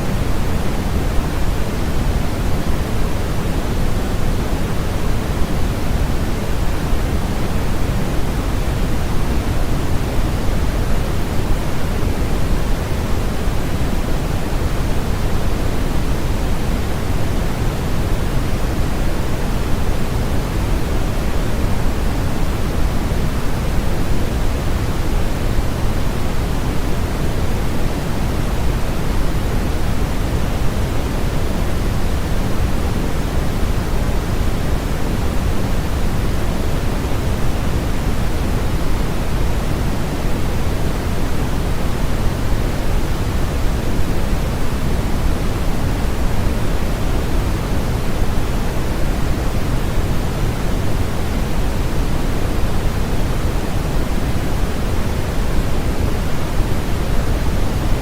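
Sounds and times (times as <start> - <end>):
low static hiss: 0.0 - 58.0.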